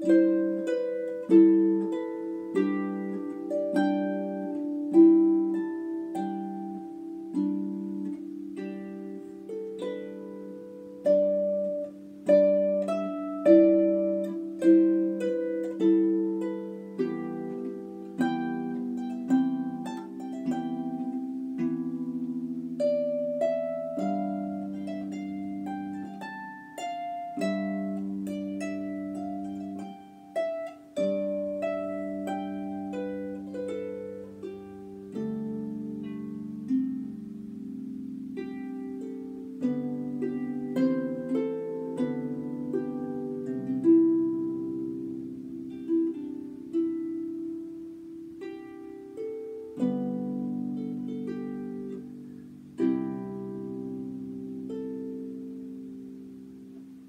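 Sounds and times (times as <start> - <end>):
solo harp playing: 0.0 - 57.0.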